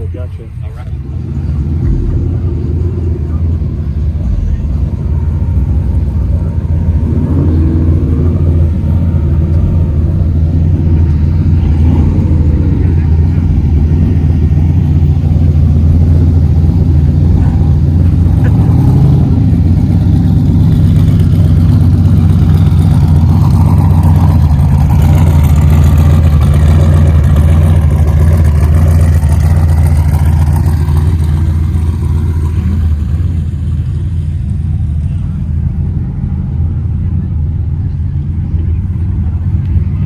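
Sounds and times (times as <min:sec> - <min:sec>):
car engines rumbling: 0:00.0 - 0:40.0
higher engine note changing pitch: 0:00.0 - 0:40.0.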